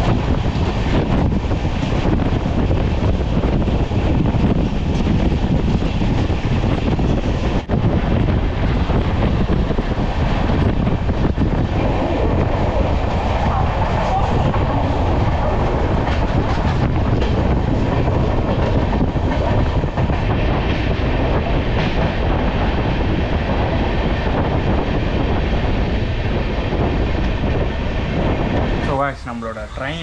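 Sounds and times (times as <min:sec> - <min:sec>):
train rushing on rails: 0:00.0 - 0:30.0.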